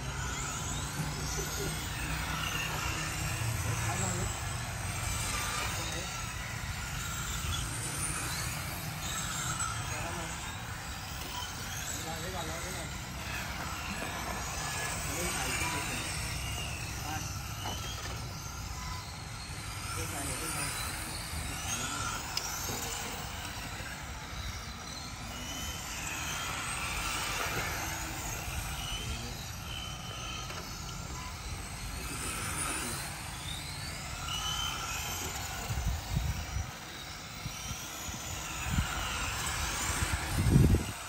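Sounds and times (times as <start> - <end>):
rc car motors whining: 0.0 - 41.0.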